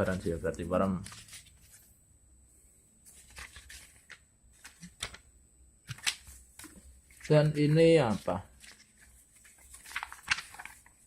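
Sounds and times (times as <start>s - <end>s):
paper rustling: 0.0s - 1.9s, 3.0s - 5.2s, 5.8s - 11.0s.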